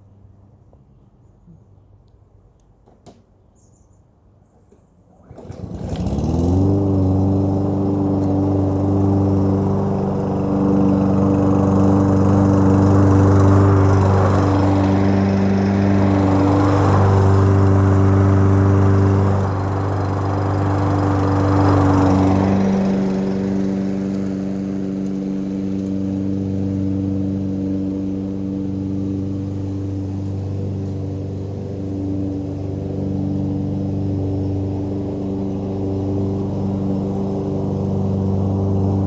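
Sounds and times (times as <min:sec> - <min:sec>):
lawn mower engine starting: 0:05.0 - 0:39.0.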